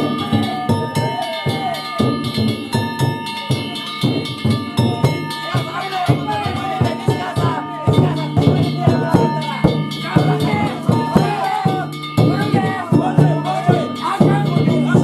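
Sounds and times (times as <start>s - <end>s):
drum beating steadily: 0.0s - 15.0s
gongs ringing: 0.0s - 15.0s
voices calling out: 0.0s - 15.0s.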